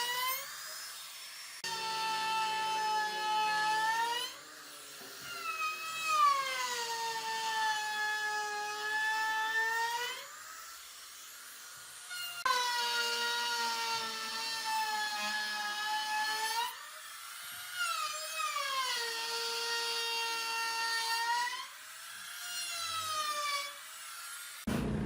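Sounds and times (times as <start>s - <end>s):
power tool motor whining: 0.0s - 24.7s.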